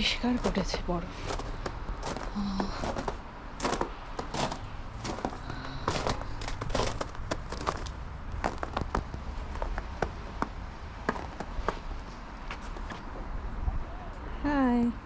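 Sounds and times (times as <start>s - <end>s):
footsteps crunching on snow: 0.0s - 13.1s.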